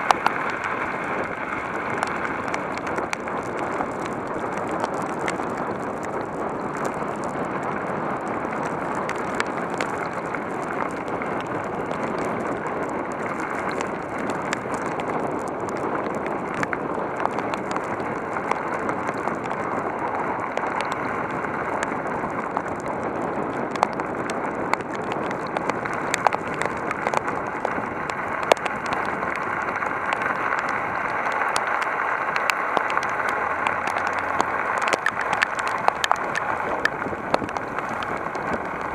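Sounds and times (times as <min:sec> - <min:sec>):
heavy rain falling: 0:00.0 - 0:38.9
raindrops ticking on hard surface: 0:00.0 - 0:38.9.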